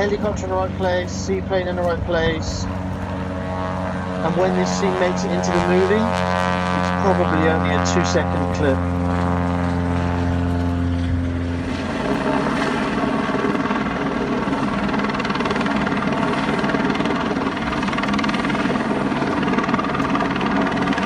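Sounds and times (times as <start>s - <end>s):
helicopter rotor noise: 0.0s - 21.0s
pitched engine drone: 0.0s - 21.0s.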